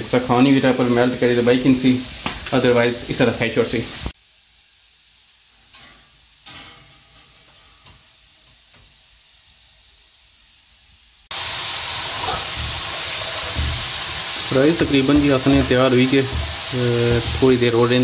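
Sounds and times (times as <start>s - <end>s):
chips sizzling in hot oil: 0.0s - 18.0s.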